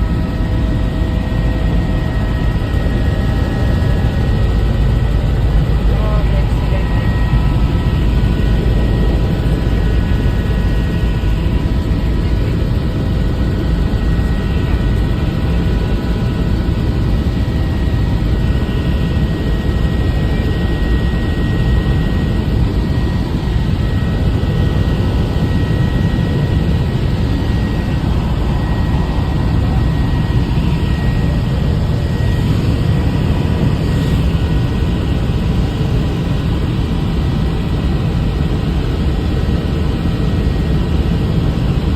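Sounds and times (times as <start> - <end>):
high whine: 0.0 - 35.8
helicopter rotor and engine rumble: 0.0 - 41.9.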